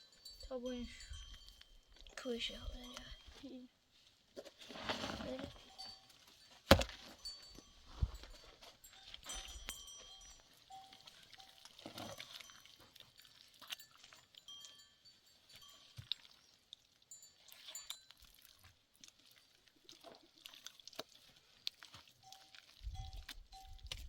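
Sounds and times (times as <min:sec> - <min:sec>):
livestock bells tinkling: 0:00.0 - 0:03.7, 0:04.8 - 0:18.7, 0:22.2 - 0:24.0.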